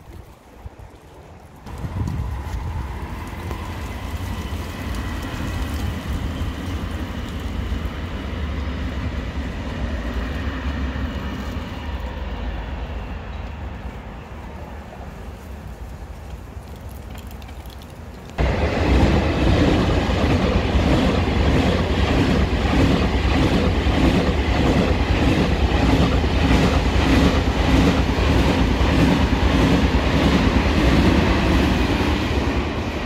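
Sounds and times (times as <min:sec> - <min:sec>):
train wheels rumbling on rails: 0:00.0 - 0:16.6, 0:18.4 - 0:33.0.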